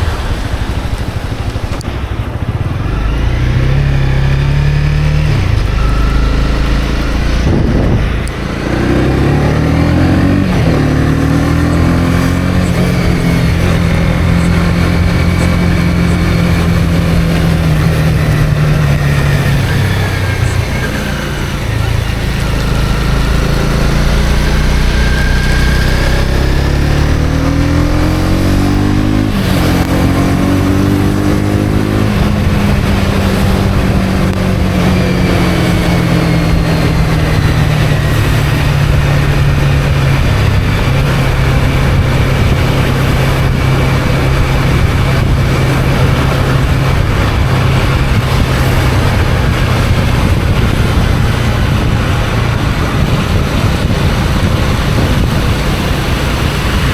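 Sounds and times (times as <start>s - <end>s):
motorcycle engine accelerating: 0.0s - 56.9s
wind and road noise: 0.0s - 56.9s.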